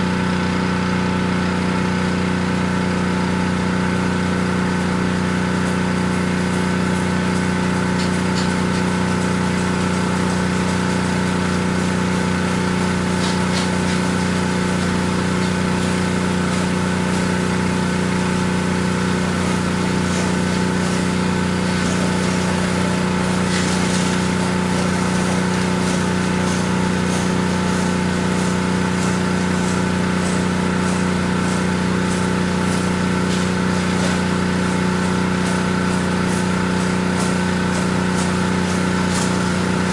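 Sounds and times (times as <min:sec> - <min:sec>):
pressure washer engine running: 0:00.0 - 0:39.9
water spraying hiss: 0:03.3 - 0:39.9.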